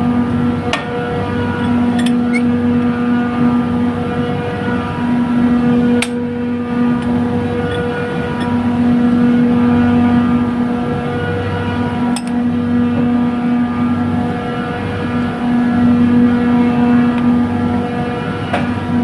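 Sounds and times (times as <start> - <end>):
chiller compressor humming: 0.0 - 19.0.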